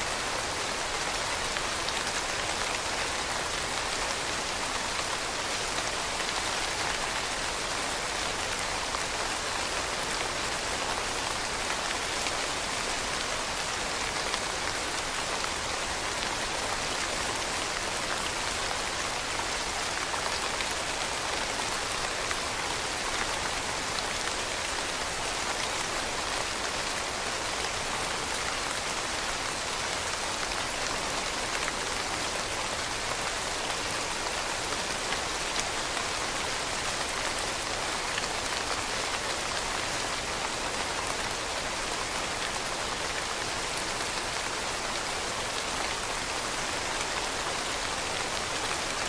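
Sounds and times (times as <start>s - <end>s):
rain falling on leaves: 0.0s - 49.0s.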